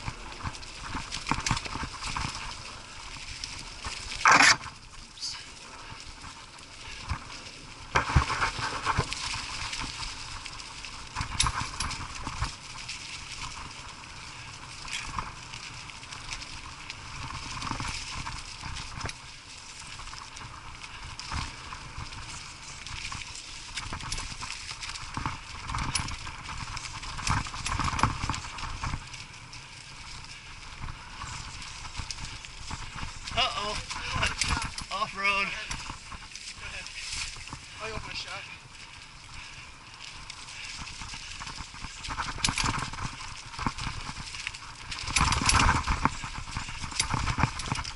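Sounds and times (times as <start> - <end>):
bike rattling over bumps: 0.0 - 47.9.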